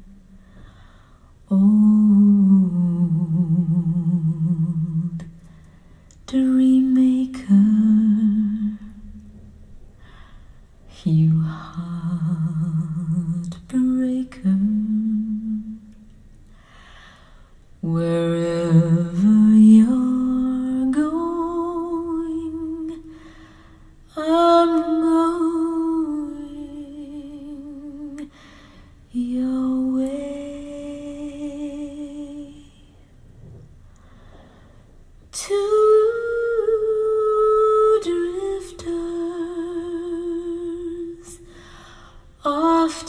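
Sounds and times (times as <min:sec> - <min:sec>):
woman singing a slow ballad: 0:00.8 - 0:09.3, 0:10.9 - 0:16.0, 0:17.8 - 0:33.1, 0:35.2 - 0:43.0.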